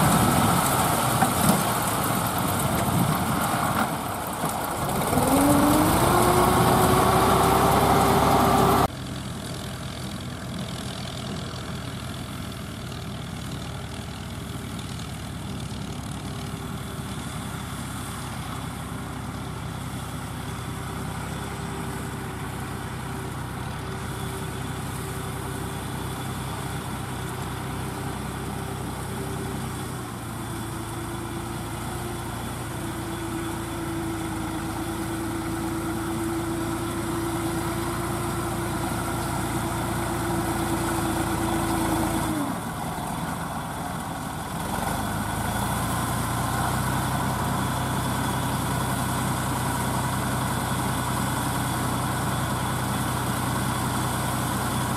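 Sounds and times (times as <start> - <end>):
steady tractor engine drone: 0.0 - 54.9
tractor diesel engine under load: 0.0 - 54.9.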